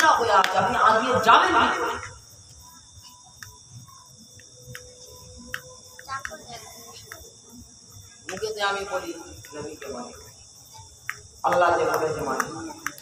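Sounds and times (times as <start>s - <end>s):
high-pitched insect trilling: 0.0s - 13.0s.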